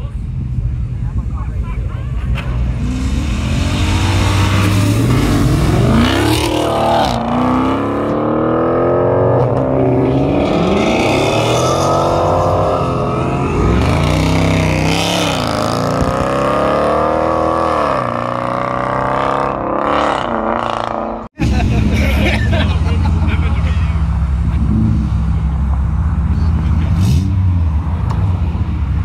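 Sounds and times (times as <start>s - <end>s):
sports car engines accelerating: 0.1s - 29.0s.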